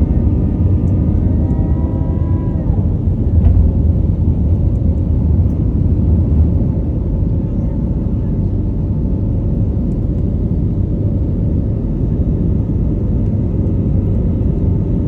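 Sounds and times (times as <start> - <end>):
airplane engines rumbling: 0.0 - 15.0
engine whine: 0.0 - 15.0.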